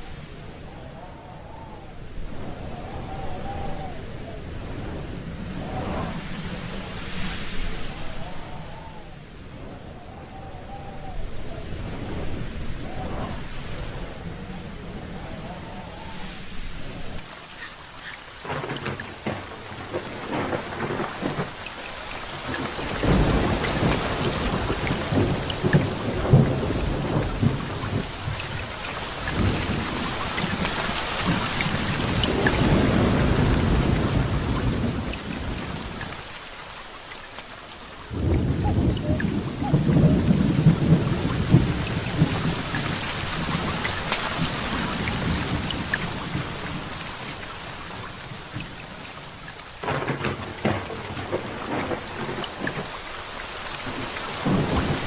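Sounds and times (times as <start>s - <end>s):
thunder rumbling: 0.0s - 17.2s, 18.4s - 36.2s, 38.1s - 53.0s, 53.8s - 55.0s
steady rain falling: 0.0s - 55.0s.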